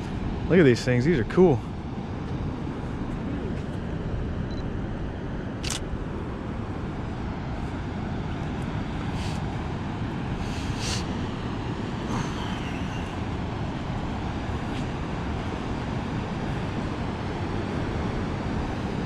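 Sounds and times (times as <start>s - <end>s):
ocean surf on rocky shore: 0.0s - 19.0s
wind: 0.0s - 19.0s.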